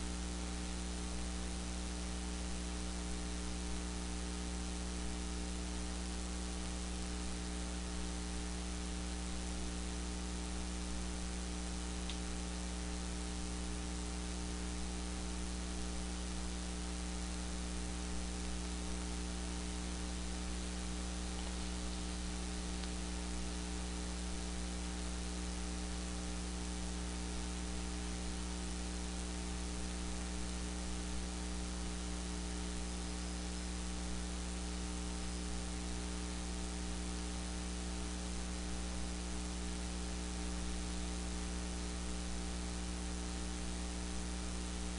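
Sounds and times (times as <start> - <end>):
constant hiss: 0.0 - 44.9
electrical hum: 0.0 - 44.9.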